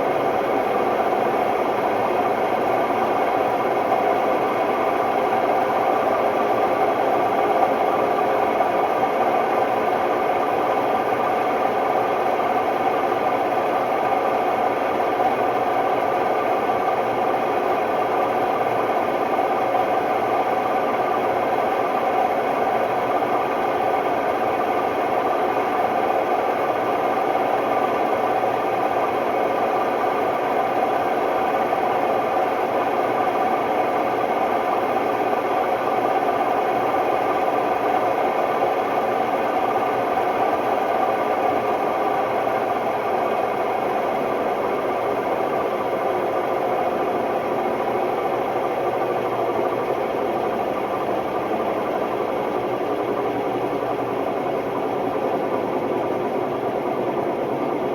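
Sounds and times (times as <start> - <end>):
washing machine spinning: 0.0 - 57.9.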